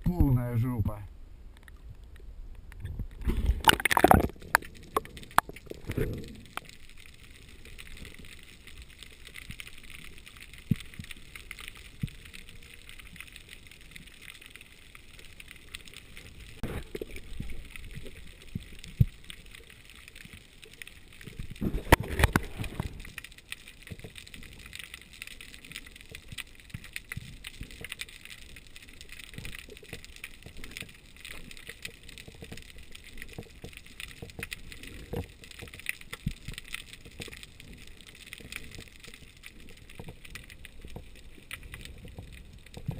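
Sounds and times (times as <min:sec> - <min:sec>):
crackling and small clicks: 0:00.0 - 0:42.9
muffled water rush: 0:00.0 - 0:42.9.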